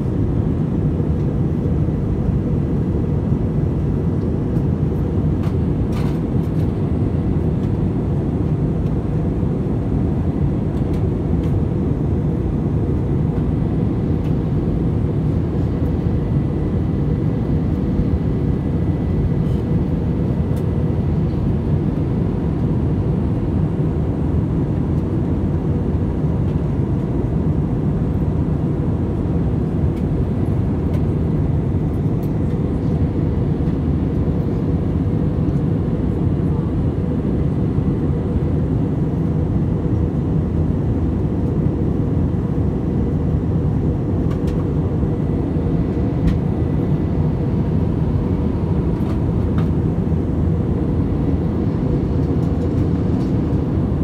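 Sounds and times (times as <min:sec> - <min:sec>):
jet airliner cabin drone: 0:00.0 - 0:54.0.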